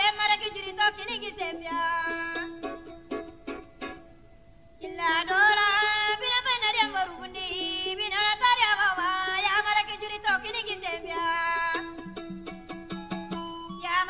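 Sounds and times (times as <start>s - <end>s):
person singing ornamented notes: 0.0s - 4.1s, 4.8s - 14.0s.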